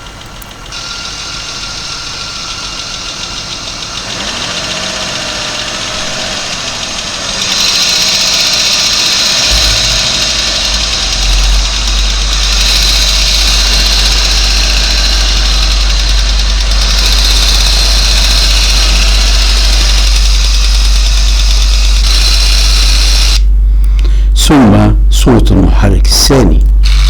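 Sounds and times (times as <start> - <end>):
diesel engine clattering: 0.0 - 25.6.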